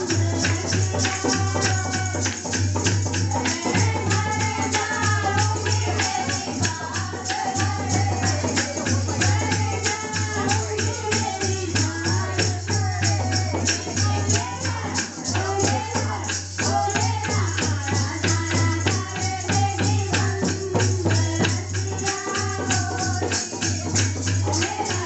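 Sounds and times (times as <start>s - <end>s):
person singing devotional melody: 0.0s - 25.0s
tambourine-like jingling beat: 0.0s - 25.0s.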